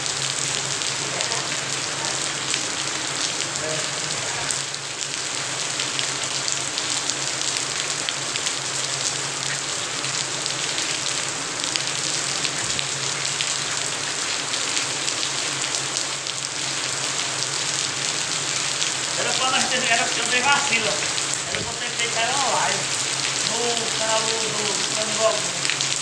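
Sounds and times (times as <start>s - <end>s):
rain on wet concrete: 0.0s - 26.0s.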